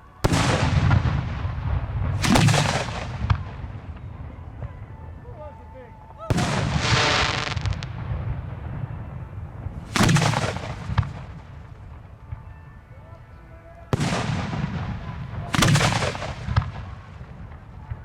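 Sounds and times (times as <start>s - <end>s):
fireworks booming and crackling: 0.0s - 12.5s, 13.9s - 18.0s.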